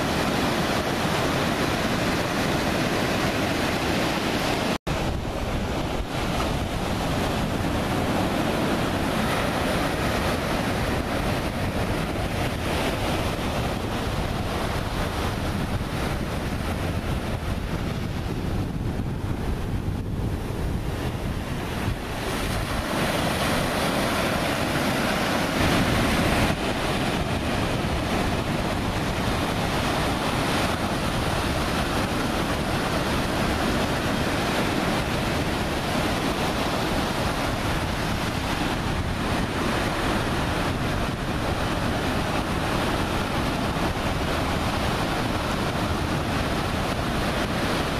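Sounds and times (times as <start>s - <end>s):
ocean surf breaking: 0.0s - 47.9s
wind buffeting microphone: 0.0s - 47.9s.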